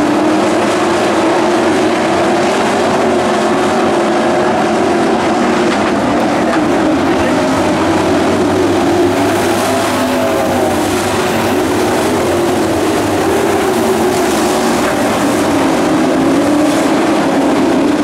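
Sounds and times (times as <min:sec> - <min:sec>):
racing truck engines: 0:00.0 - 0:18.0.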